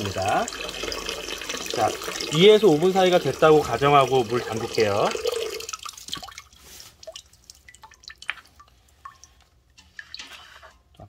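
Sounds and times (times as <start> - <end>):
water pouring into metal pot: 0.0 - 9.3
water drops falling into pot: 0.1 - 9.4.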